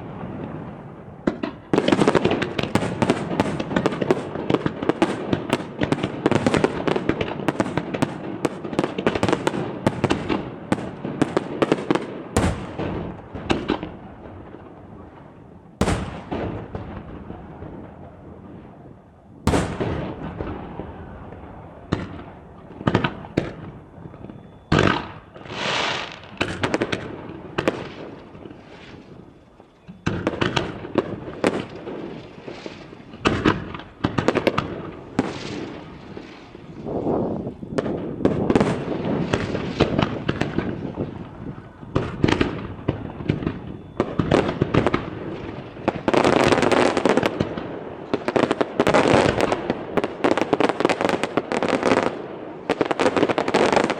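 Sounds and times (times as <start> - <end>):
fireworks bangs and booms: 0.0 - 53.9
fireworks crackling and hissing: 0.0 - 53.9.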